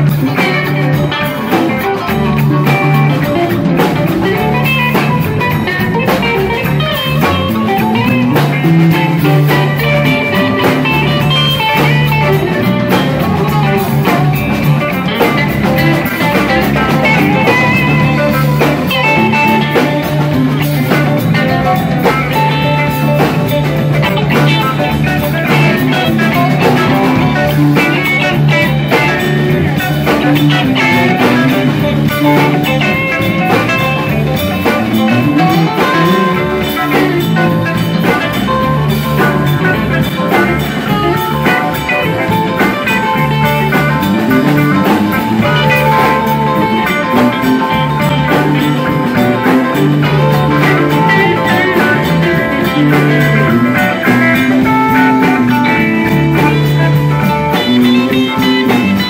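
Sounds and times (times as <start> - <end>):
bass: 0.0 - 59.0
drum kit: 0.0 - 59.0
electric guitars: 0.0 - 59.0.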